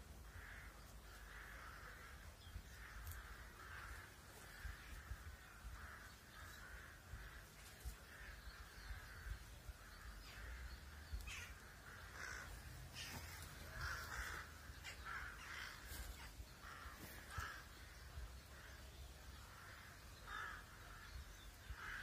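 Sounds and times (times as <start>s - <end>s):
faint bird calls: 0.2s - 22.0s.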